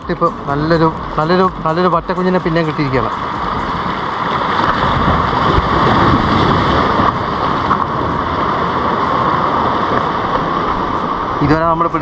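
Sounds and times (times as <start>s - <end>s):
sea surf: 0.0s - 12.0s
wind: 0.0s - 12.0s.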